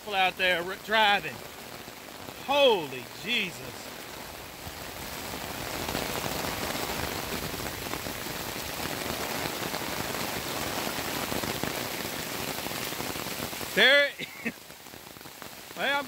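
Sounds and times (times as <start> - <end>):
heavy rain on wet ground: 0.0 - 16.0.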